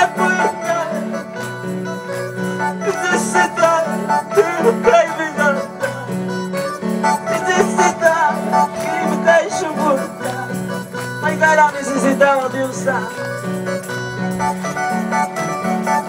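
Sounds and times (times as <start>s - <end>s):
held chords: 0.0s - 16.0s
wavering lead melody: 0.0s - 16.0s.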